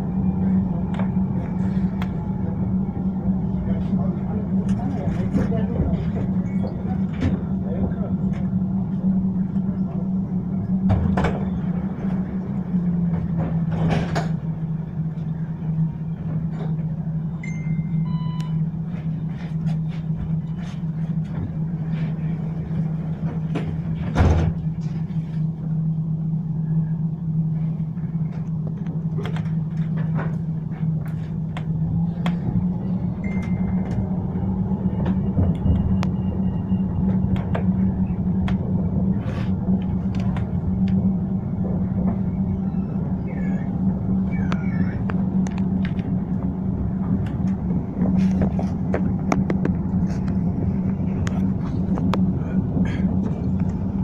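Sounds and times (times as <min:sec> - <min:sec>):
tram ride drone: 0:00.0 - 0:54.0.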